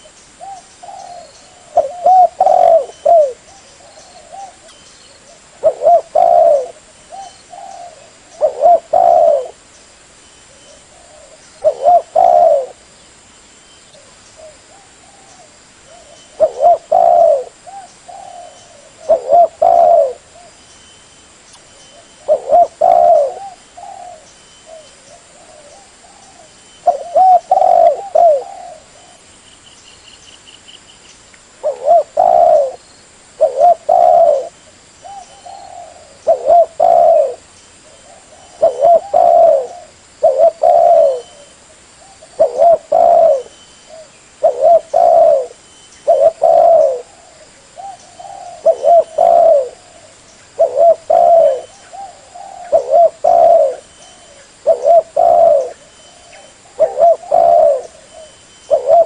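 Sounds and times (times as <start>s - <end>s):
dove cooing: 0.0s - 9.6s, 10.5s - 12.8s, 14.0s - 20.6s, 21.9s - 29.2s, 31.6s - 32.8s, 33.4s - 59.0s.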